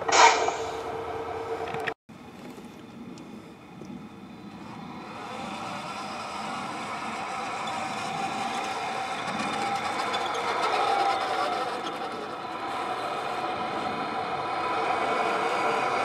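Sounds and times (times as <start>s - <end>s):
electric motor and gearbox hum: 0.0s - 16.0s
simulated diesel engine sound: 0.0s - 16.0s.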